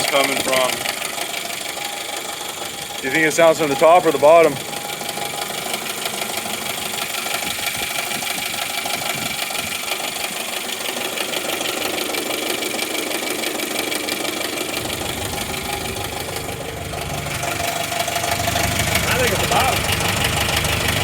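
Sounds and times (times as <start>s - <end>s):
car engine running: 0.0s - 21.0s
engine knocking: 0.0s - 21.0s.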